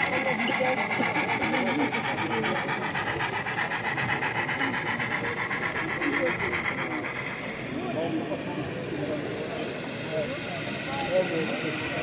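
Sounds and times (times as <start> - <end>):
model train wheels clattering: 0.0 - 12.0.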